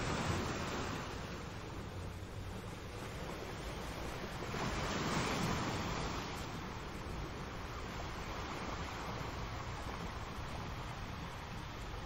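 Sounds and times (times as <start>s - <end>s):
surf washing over rocky shore: 0.0s - 2.0s, 3.3s - 12.0s.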